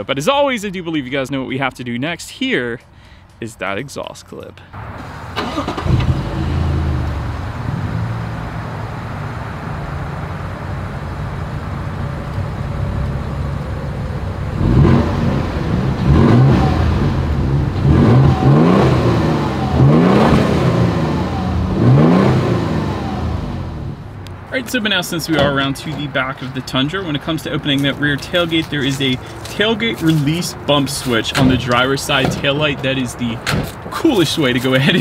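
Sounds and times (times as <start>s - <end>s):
truck engine idling and revving: 4.8s - 35.0s.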